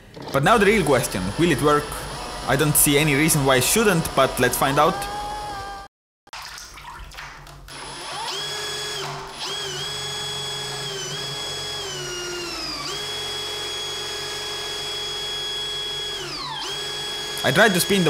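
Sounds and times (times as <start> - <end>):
power drill motor whine: 0.1 - 5.9, 7.7 - 18.0.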